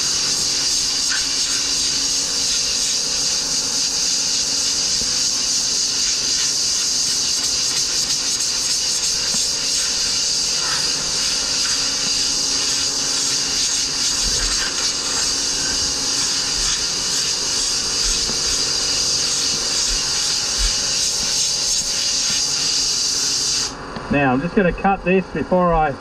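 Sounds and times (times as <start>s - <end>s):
air blow gun hissing: 0.0s - 25.2s.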